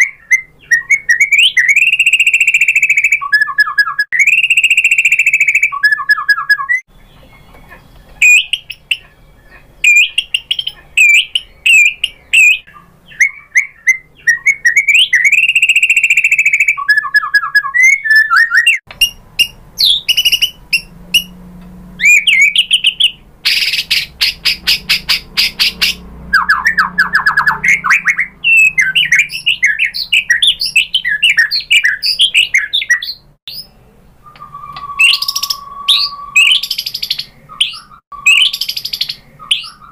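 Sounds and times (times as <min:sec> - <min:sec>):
bird singing whistled phrases: 0:00.0 - 0:07.5, 0:08.2 - 0:21.4, 0:22.0 - 0:39.9.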